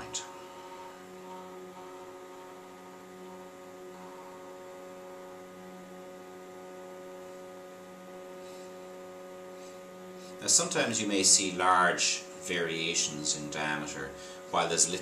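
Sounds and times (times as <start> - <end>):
machine humming with steady tones: 0.0 - 15.0.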